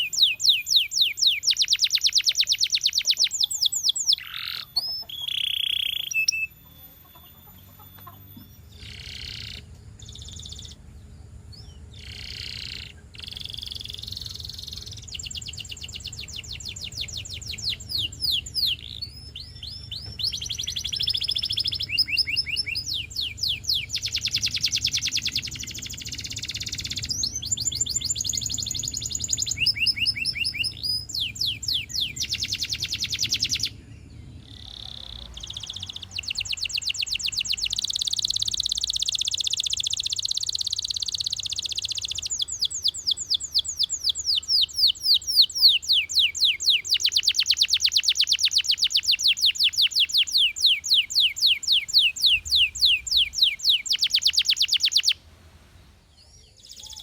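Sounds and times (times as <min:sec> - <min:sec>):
canary singing trills: 0:00.0 - 0:57.0
steady low hum: 0:06.5 - 0:47.8, 0:48.6 - 0:57.0.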